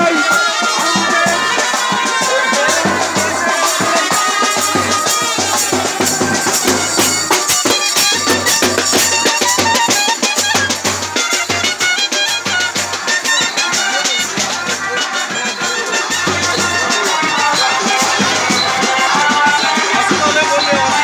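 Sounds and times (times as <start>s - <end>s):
street band playing festive tune: 0.0s - 21.0s.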